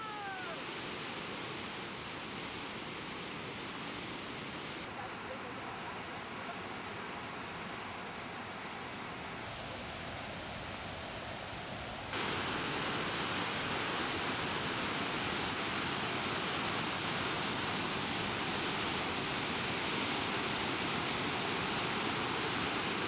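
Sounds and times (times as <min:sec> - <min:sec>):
waterfall rushing: 0:00.0 - 0:09.5, 0:12.1 - 0:23.0.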